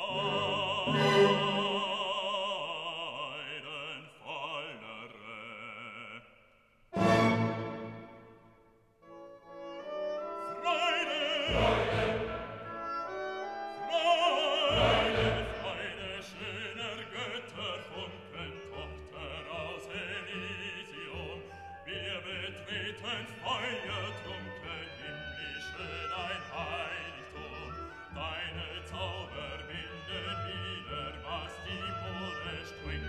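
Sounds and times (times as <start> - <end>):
orchestral accompaniment: 0.0 - 2.4, 7.0 - 33.0
operatic voice singing: 0.0 - 6.4, 10.4 - 12.8, 13.8 - 33.0.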